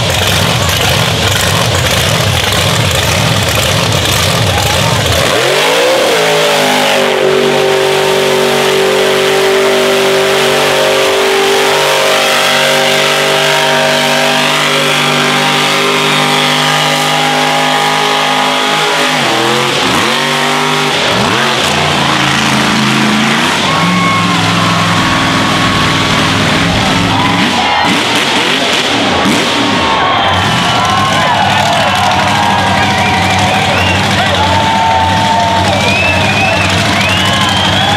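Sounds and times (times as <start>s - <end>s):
truck engine revving high: 0.0s - 37.9s.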